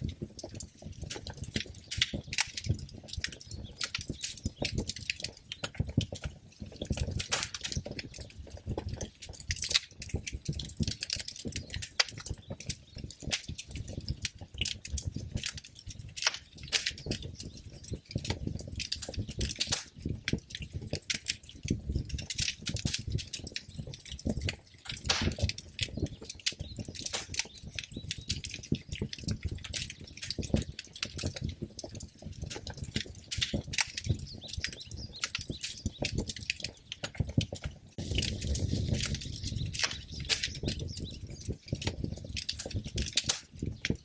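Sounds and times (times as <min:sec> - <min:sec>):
fire crackling and popping: 0:00.0 - 0:44.0
low rumble of flames: 0:00.0 - 0:44.0.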